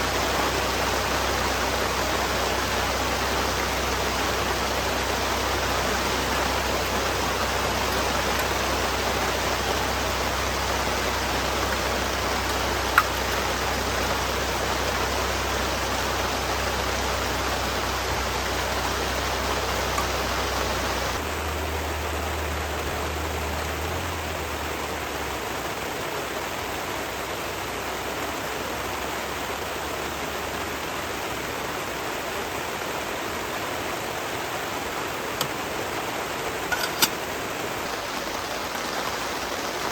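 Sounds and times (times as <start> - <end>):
rushing water and rain: 0.0 - 39.9.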